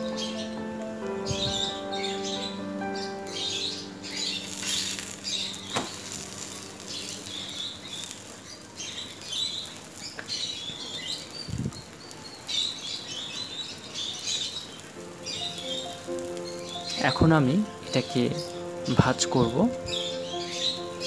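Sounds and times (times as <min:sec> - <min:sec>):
food sizzling in oil: 0:03.7 - 0:21.0.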